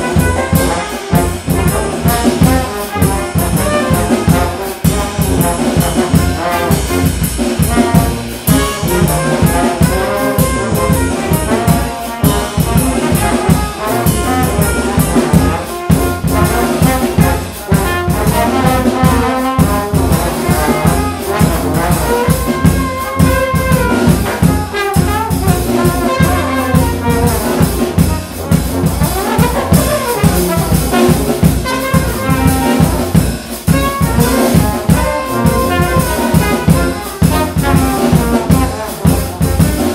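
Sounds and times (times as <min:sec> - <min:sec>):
brass ensemble playing: 0:00.0 - 0:39.9
drum kit beat: 0:00.0 - 0:39.9.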